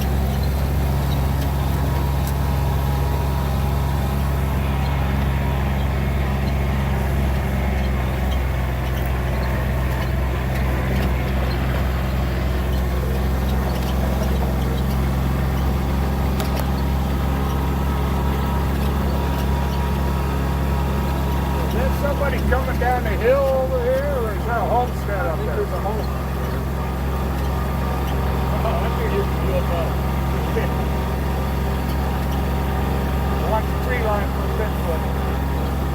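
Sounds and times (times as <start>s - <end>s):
rumbling road noise: 0.0s - 35.9s
vehicle engine droning: 0.0s - 35.9s.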